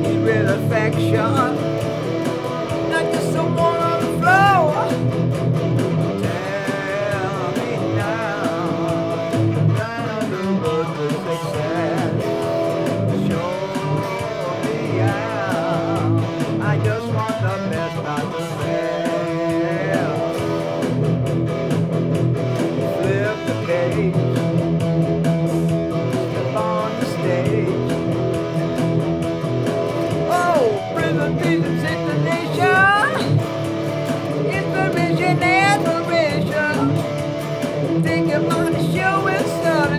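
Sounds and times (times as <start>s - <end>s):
drum machine beat: 0.0s - 39.9s
electric guitar lead: 0.0s - 39.9s.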